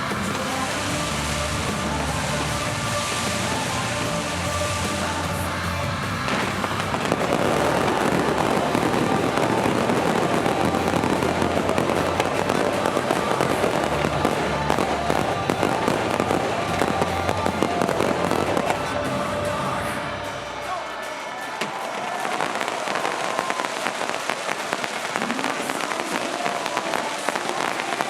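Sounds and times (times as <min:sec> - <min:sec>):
background music: 0:00.0 - 0:28.0
fireworks crackling and popping: 0:00.0 - 0:28.0.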